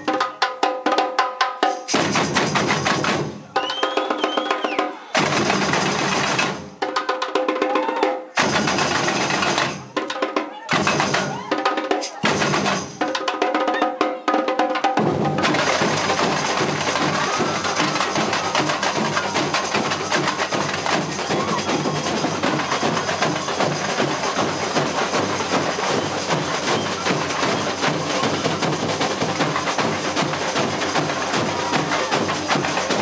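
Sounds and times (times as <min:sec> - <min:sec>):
samba drum corps playing: 0:00.0 - 0:33.0.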